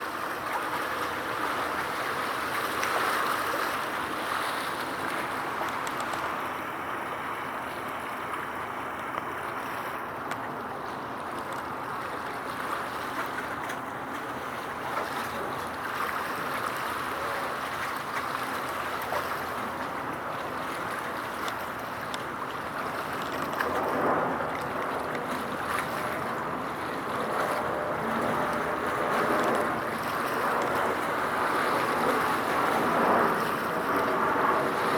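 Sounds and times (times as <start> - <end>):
water noise: 0.0 - 34.9
wind: 0.0 - 34.9.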